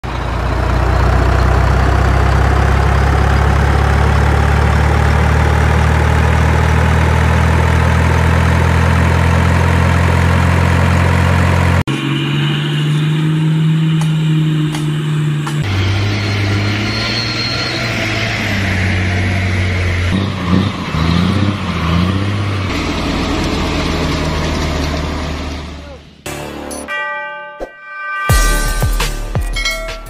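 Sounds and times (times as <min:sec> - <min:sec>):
different engine: 0:00.0 - 0:27.4
truck engine droning: 0:00.0 - 0:30.0.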